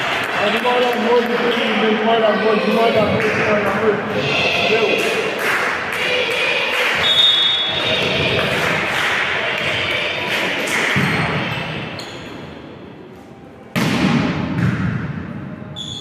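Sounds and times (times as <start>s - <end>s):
voices of players and spectators: 0.0s - 13.8s.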